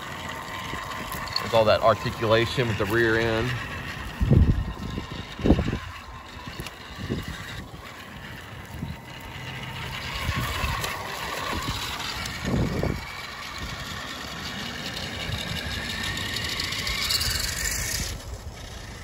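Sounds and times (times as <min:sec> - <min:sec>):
toy car motor whine: 0:00.0 - 0:19.0.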